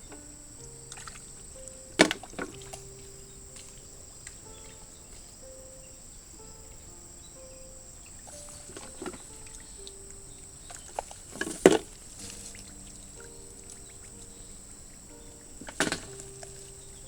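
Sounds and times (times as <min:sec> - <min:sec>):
insects droning: 0:00.0 - 0:17.0
soft background music: 0:00.0 - 0:17.0.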